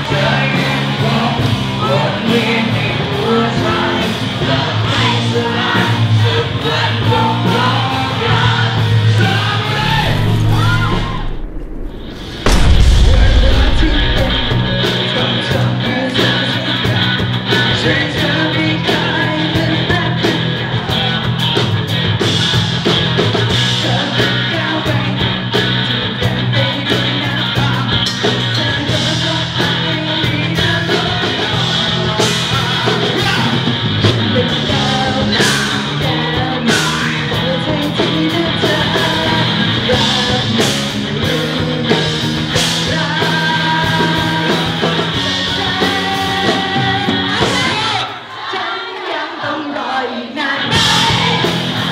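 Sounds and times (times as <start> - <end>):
live rock band playing: 0.0 - 48.1, 50.6 - 51.9.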